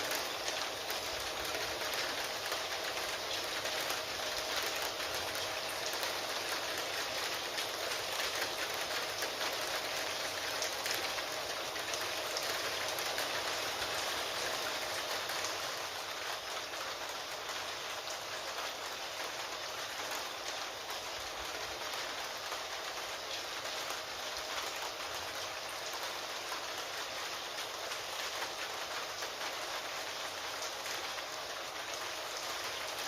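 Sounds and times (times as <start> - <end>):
steady rain patter: 0.0 - 33.0.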